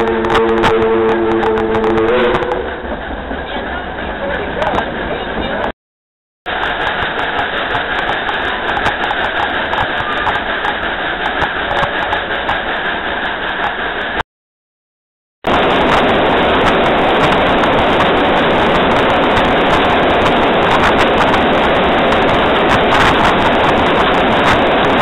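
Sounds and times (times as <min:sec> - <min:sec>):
locomotive clattering running noise: 0:00.0 - 0:05.7, 0:06.5 - 0:14.2, 0:15.5 - 0:25.0.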